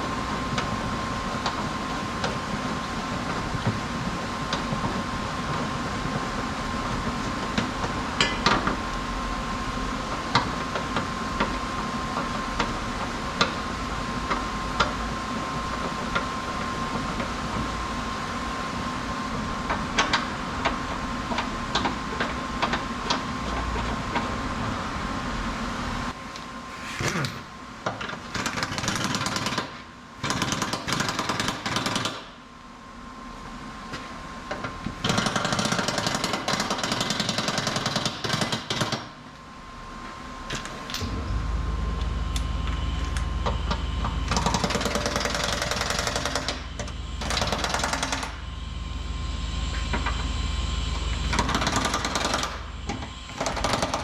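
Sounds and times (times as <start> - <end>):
mechanical hum with high whine: 0.0 - 54.0.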